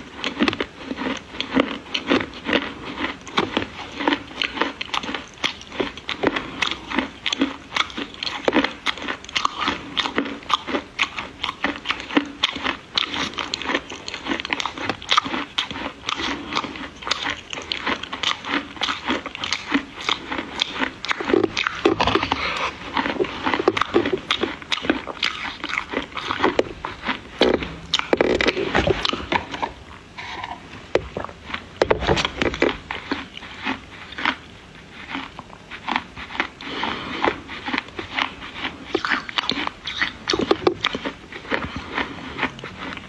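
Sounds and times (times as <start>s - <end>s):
dry clay crunching being chewed: 0.0s - 43.0s.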